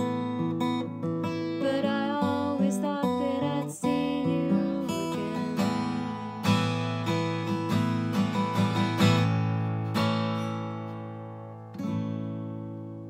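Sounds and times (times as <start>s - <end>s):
acoustic guitar strumming and plucking: 0.0s - 13.0s.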